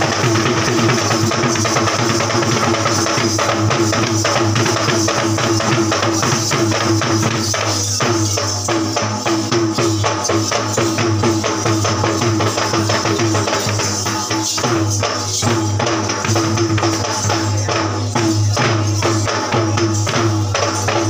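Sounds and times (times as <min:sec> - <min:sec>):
hand drums beating: 0:00.0 - 0:21.0
metallic jingle: 0:00.0 - 0:21.0.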